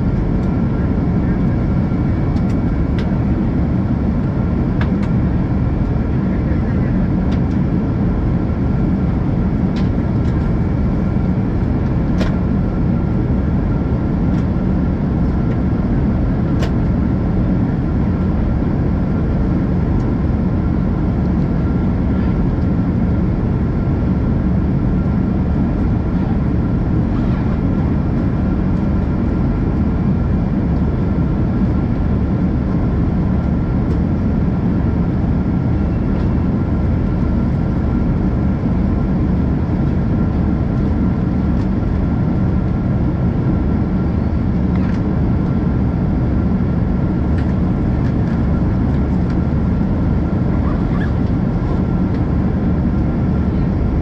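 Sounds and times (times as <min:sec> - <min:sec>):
airplane cabin drone: 0:00.0 - 0:54.0
faint engine whine: 0:00.0 - 0:54.0.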